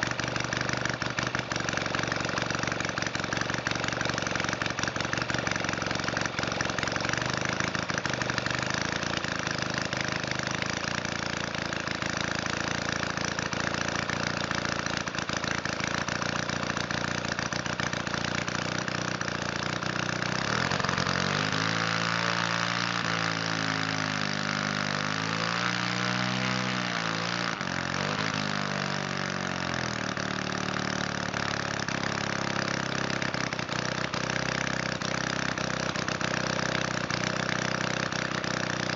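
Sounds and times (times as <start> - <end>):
model engine running: 0.0 - 38.9.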